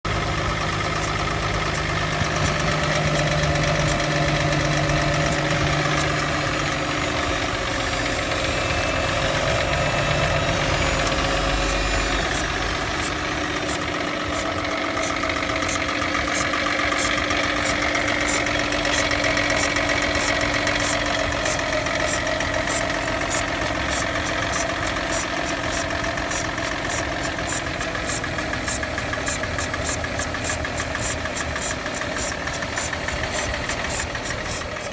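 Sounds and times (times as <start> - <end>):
engine knocking tick: 0.0 - 34.9.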